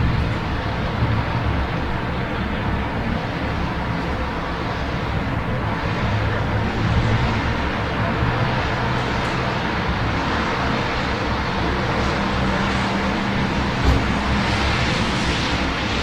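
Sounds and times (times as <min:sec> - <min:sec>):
city traffic hum: 0:00.0 - 0:16.0
steady rain: 0:00.0 - 0:16.0.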